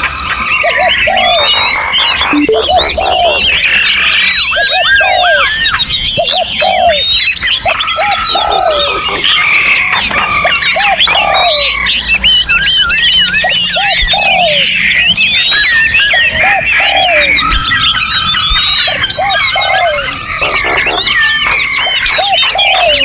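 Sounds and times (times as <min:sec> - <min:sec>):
songbirds chorus: 0:00.0 - 0:23.0.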